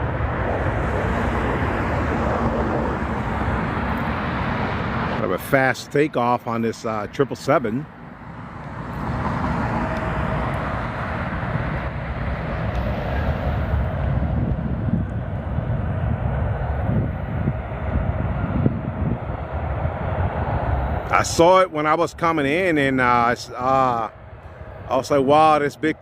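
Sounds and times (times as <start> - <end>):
faint engine whine: 0.0 - 26.0
jet engines roaring: 0.0 - 26.0.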